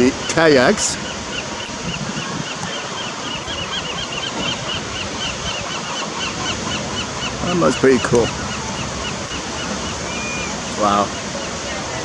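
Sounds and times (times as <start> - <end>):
ocean surf washing onto beach: 0.0 - 12.0
wind: 0.0 - 12.0.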